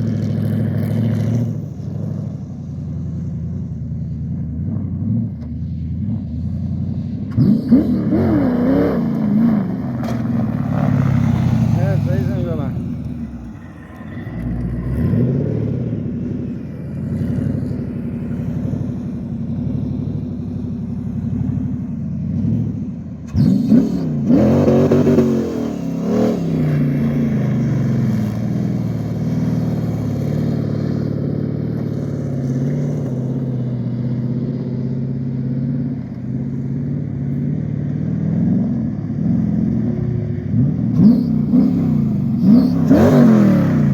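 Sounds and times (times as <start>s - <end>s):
buggy engine revving: 0.0s - 43.9s.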